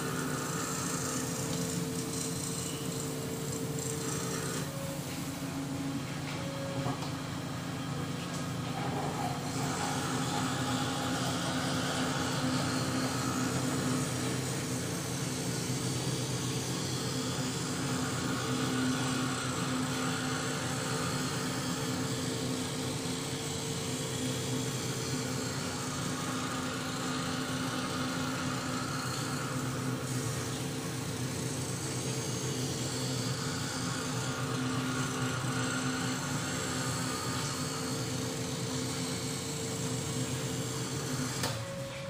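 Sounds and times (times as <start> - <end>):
machine motor hum: 0.0 - 42.0.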